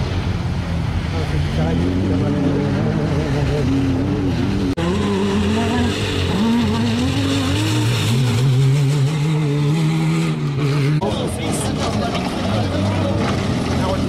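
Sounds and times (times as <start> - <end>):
buggy engine revving: 0.0 - 14.0.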